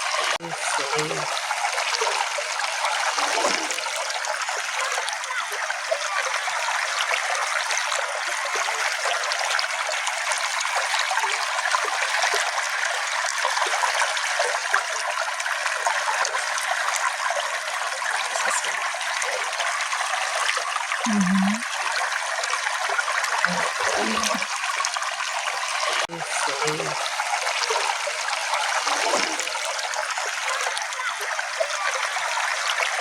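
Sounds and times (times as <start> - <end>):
small stream trickling: 0.0 - 33.0.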